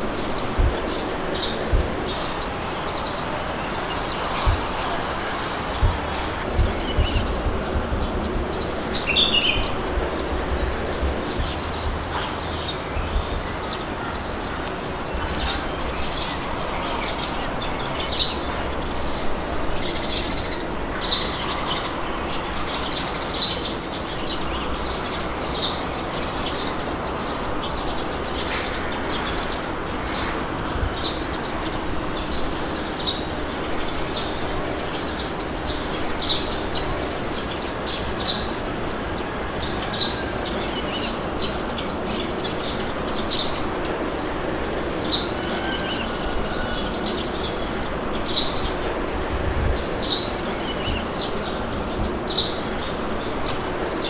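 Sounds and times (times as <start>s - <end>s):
birds chirping: 0.0s - 54.0s
wind noise: 0.0s - 54.0s.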